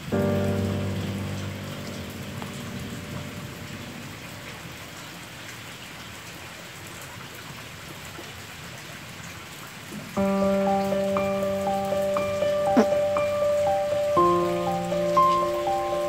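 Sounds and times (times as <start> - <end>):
rain falling on wet ground: 0.0 - 16.0.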